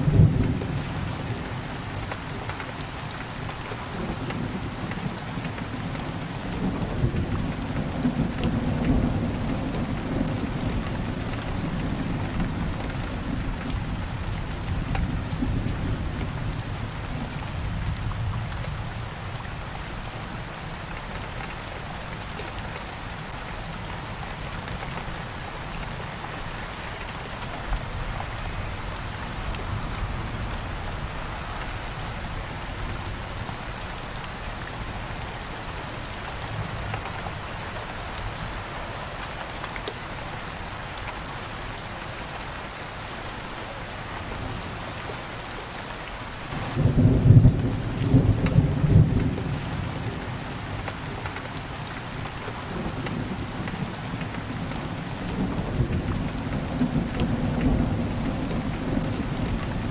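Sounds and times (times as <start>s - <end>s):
heavy rain on window glass: 0.0s - 59.9s.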